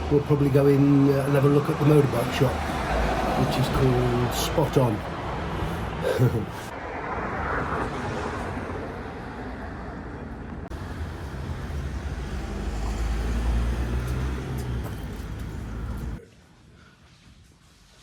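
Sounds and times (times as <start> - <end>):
vehicle engine passing: 0.0 - 16.2.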